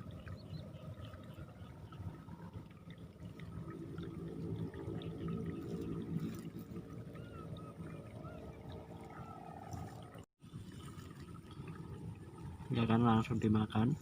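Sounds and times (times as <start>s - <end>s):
muddy water sloshing and gurgling: 0.0s - 14.0s.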